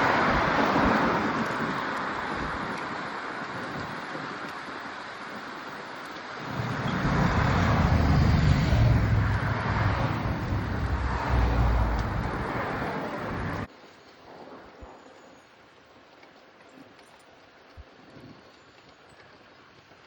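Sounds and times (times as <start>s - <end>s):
wind and road noise while cycling: 0.0s - 20.0s.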